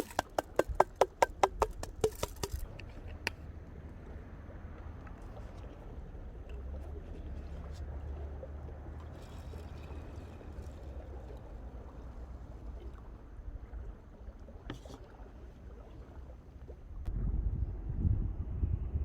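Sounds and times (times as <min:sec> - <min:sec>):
small waves lapping: 0:00.0 - 0:17.1
low wind rumble: 0:00.6 - 0:19.0.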